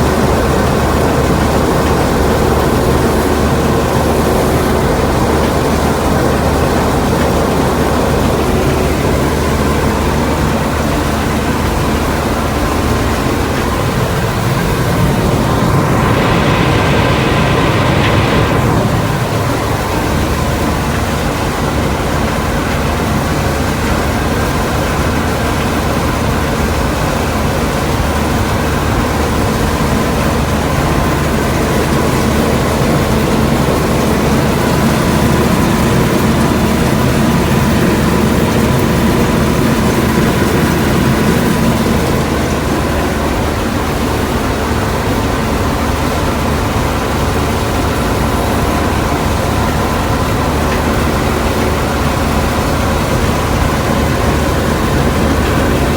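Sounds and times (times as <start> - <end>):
combine harvester engine drone: 0.0 - 55.9
faint steady whine: 0.0 - 55.9.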